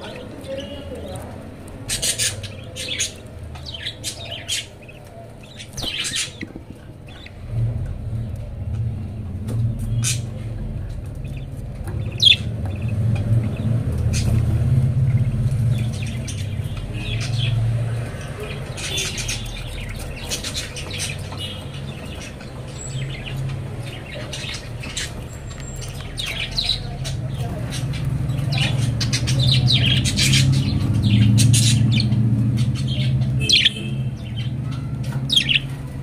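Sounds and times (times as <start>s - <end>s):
budgerigars chirping and squawking: 0.0s - 8.4s, 9.8s - 36.0s.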